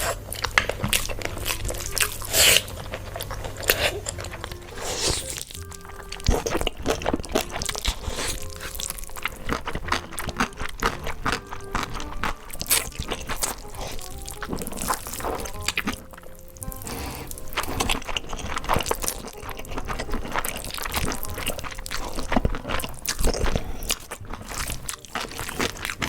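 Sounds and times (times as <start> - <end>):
crunchy bites and chewing: 0.0 - 26.0
light background music: 0.0 - 26.0.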